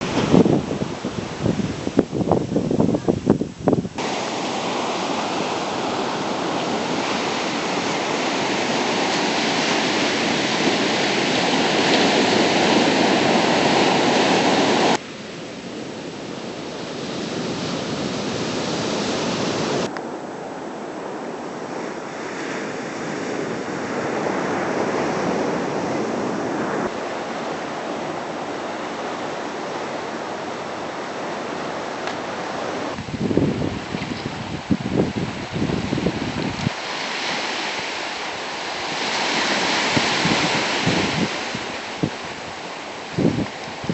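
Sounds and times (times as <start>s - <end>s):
ocean surf washing: 0.0s - 43.9s.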